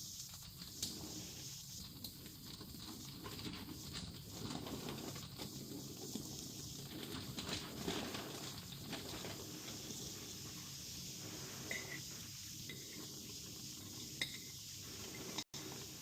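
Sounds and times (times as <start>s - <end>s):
grain pouring clicks and rustles: 0.0s - 16.0s.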